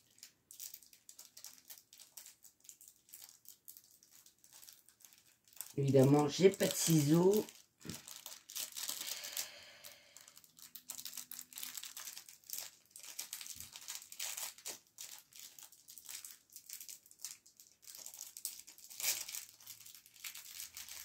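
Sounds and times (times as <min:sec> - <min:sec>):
plastic packaging crinkling and tearing: 0:00.0 - 0:21.0.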